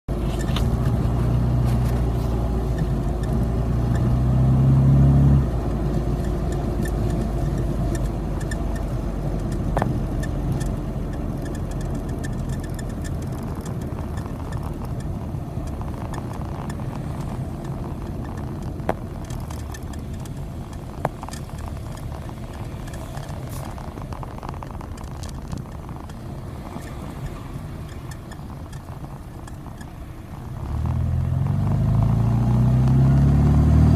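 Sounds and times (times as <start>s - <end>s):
short high squeaks: 0.1s - 4.9s, 5.5s - 30.4s
car engine running: 0.1s - 33.9s.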